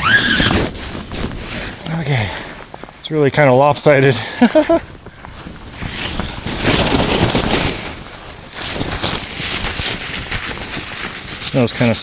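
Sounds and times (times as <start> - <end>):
tent fabric rustling: 0.0 - 12.0.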